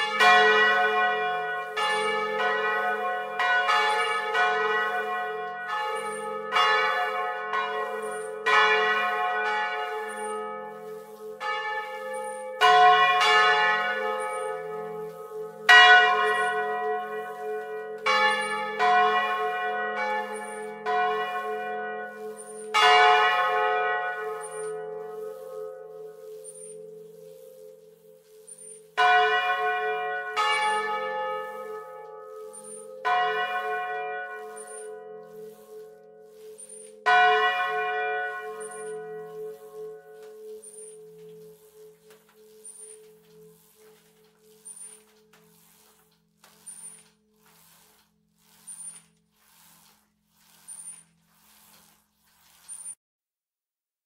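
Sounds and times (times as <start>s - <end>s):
church bells ringing: 0.0s - 45.2s.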